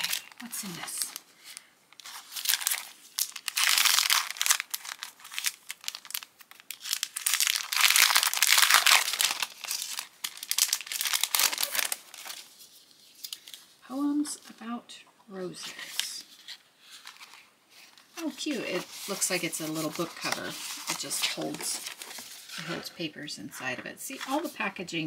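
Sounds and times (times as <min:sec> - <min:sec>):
plastic packaging crinkling: 0:00.0 - 0:13.8, 0:15.7 - 0:22.9.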